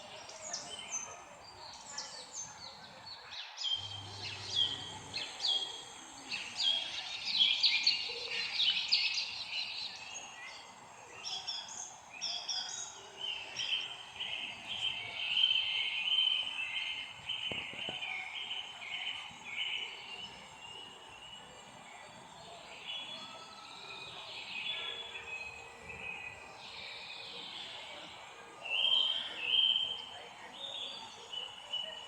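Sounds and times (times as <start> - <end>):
birds chirping and singing: 0.0 - 32.0.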